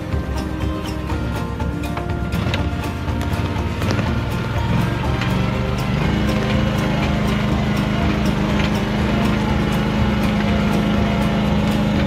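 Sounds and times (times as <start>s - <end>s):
garden tractor engine running: 0.0s - 12.0s.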